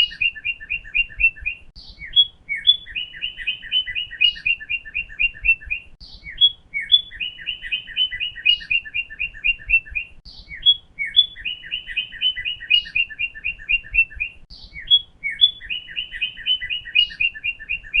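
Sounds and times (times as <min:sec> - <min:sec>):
cardinal singing whistled notes: 0:00.0 - 0:18.0.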